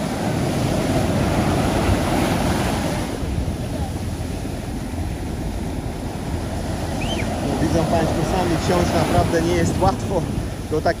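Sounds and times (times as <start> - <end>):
waves breaking on beach: 0.0 - 11.0
wind buffeting microphone: 0.0 - 11.0.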